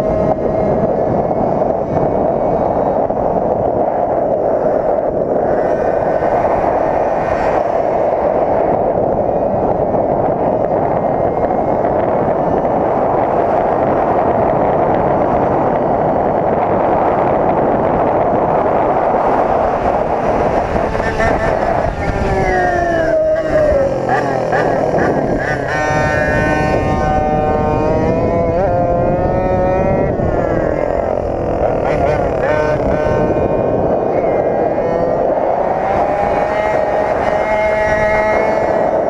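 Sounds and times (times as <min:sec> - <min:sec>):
wind noise on microphone: 0:00.0 - 0:39.0.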